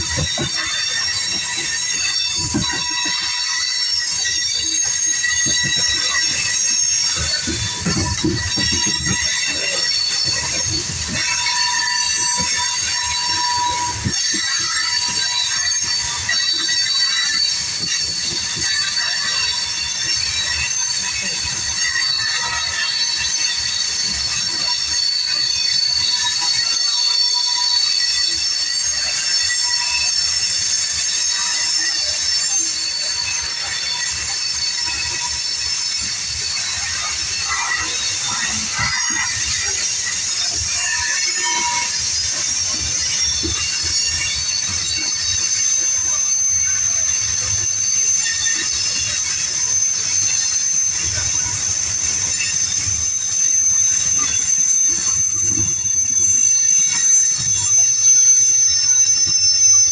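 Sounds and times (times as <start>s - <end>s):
train wheels squealing: 0.0s - 59.9s.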